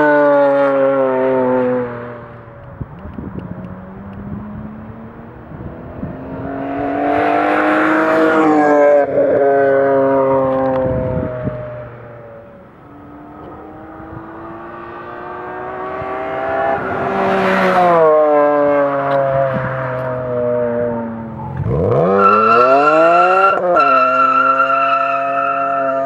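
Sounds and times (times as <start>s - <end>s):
car engine accelerating past: 3.2s - 26.0s.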